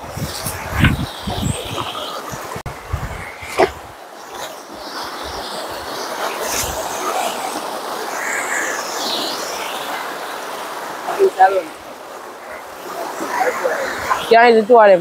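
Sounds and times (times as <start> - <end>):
river stream rushing: 0.0 - 15.0.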